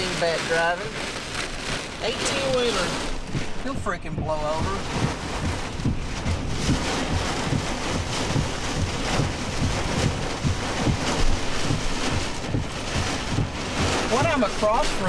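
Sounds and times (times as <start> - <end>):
rain driving against truck: 0.0 - 15.0
wind buffeting microphone: 0.9 - 15.0
storm wind gusting: 1.5 - 15.0.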